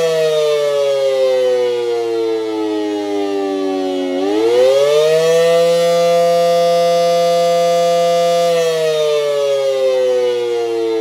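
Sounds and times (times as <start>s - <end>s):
warning siren wailing: 0.0s - 11.0s.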